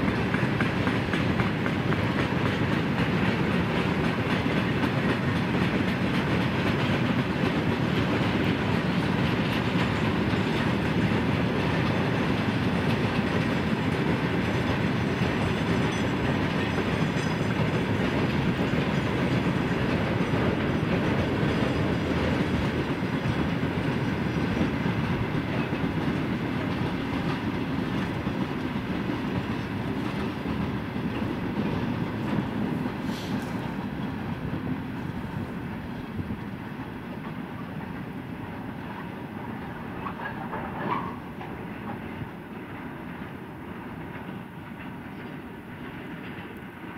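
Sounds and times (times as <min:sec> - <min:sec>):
freight train rolling on rails: 0:00.0 - 0:46.9.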